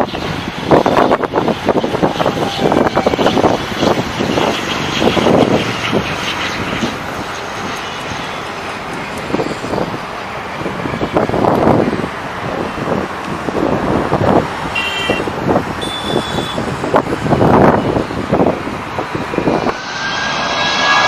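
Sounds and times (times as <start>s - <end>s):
airliner engine roar: 0.0s - 21.0s
wind buffeting microphone: 0.0s - 21.0s.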